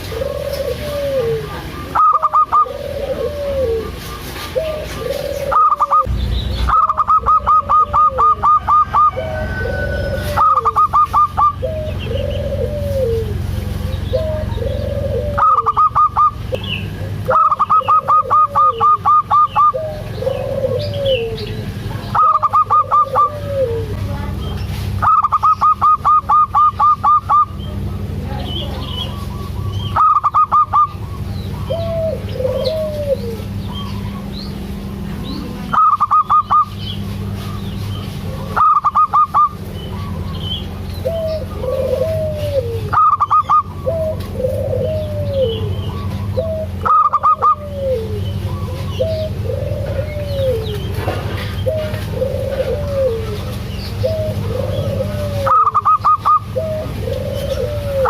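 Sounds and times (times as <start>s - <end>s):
doves calling in rapid notes: 0.0s - 58.0s
low arched dove coos: 0.0s - 58.0s
steady low rumble: 0.0s - 58.0s.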